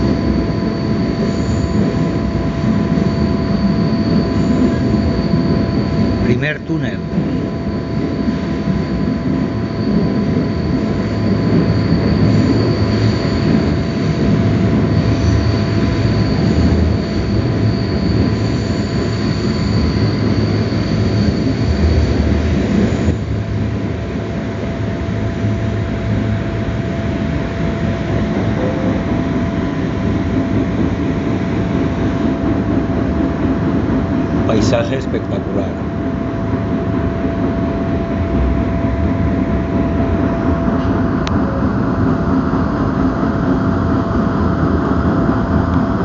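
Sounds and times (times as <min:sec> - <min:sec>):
thin high whine: 0:00.0 - 0:46.0
train wheels rumbling on rails: 0:00.0 - 0:46.0.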